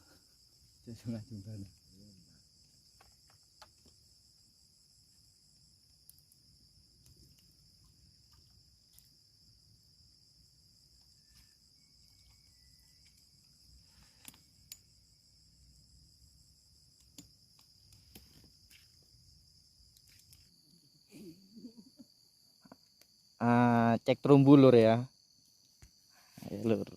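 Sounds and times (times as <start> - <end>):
insects trilling: 0.0 - 26.9.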